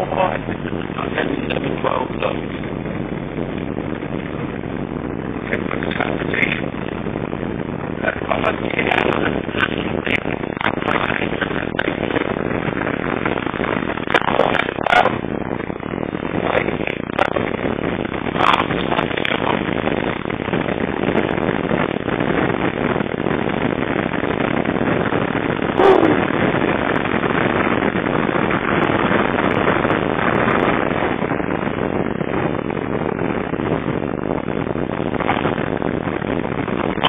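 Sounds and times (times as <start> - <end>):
car wind and road noise: 0.0 - 37.0.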